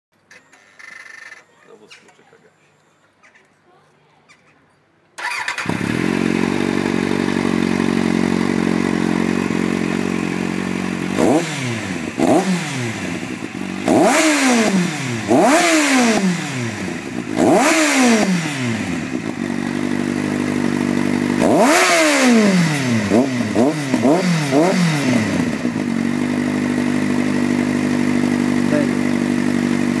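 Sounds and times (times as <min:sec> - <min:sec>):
motorcycle engine revving and idling: 0:05.2 - 0:30.0.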